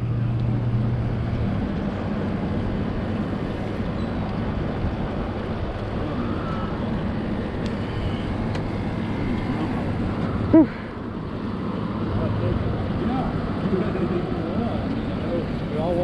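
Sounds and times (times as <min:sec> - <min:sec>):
boat motor running: 0:00.0 - 0:16.0
water noise: 0:00.0 - 0:16.0
wind: 0:00.0 - 0:16.0.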